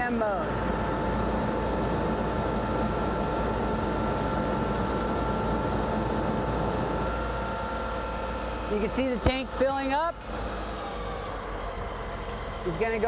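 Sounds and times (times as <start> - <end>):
fire engine motor running: 0.0 - 13.0
fire pump whine: 0.0 - 13.0.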